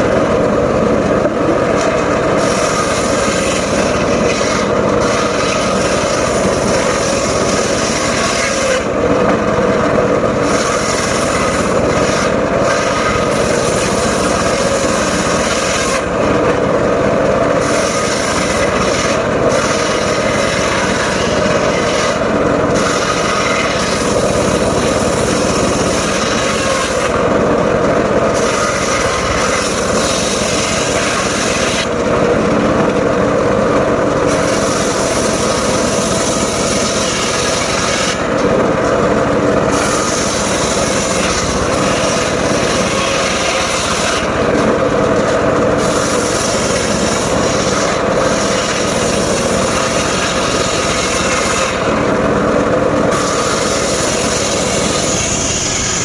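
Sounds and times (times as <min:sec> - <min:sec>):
sawmill blade sawing wood: 0:00.0 - 0:56.0.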